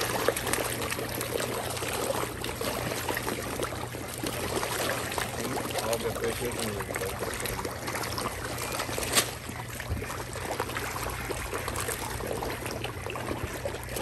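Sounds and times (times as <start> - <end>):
fish splashing at water surface: 0.0 - 14.0.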